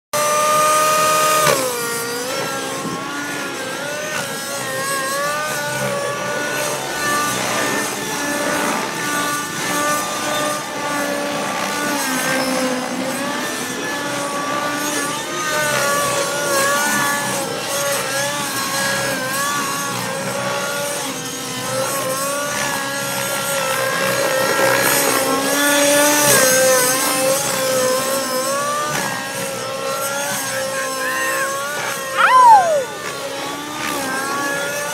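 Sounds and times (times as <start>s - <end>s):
model helicopter engine and rotor: 0.2s - 34.9s.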